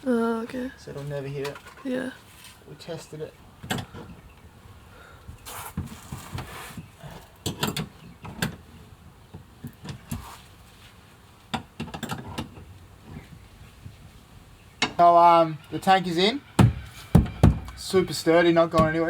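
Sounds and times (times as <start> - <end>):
rustling hiss: 0.0 - 7.4, 9.7 - 11.5, 12.8 - 19.0.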